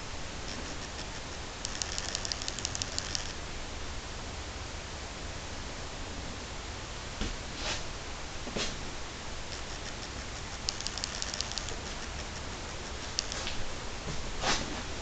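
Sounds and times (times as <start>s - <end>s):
steady recording hiss: 0.0s - 15.0s.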